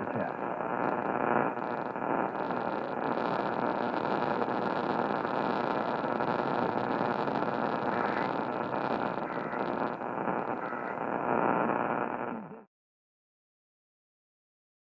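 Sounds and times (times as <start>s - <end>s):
radio static hiss: 0.0s - 12.7s.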